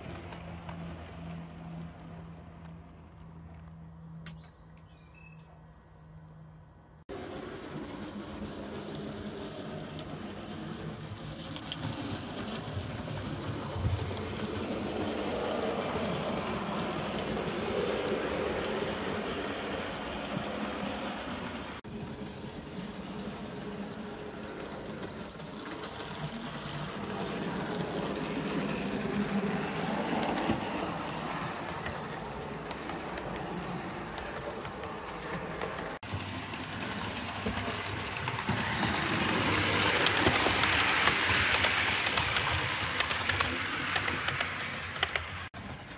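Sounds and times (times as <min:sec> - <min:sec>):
model train wheels rumbling: 0:07.1 - 0:45.9.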